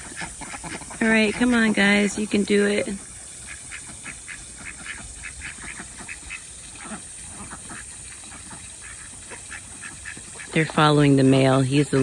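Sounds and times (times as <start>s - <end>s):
ducks quacking softly: 0.0s - 2.3s, 3.3s - 12.0s
faint steady hiss: 0.0s - 12.0s.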